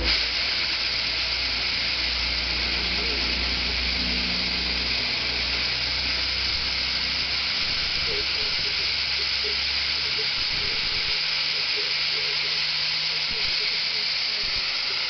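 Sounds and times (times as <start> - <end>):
low motor hum: 0.0 - 15.0
rushing air hiss: 0.0 - 15.0.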